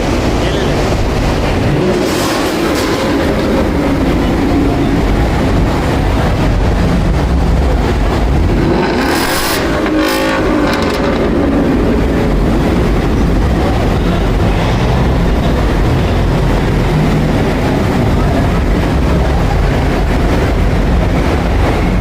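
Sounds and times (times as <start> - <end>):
car engines rumbling: 0.0 - 22.0.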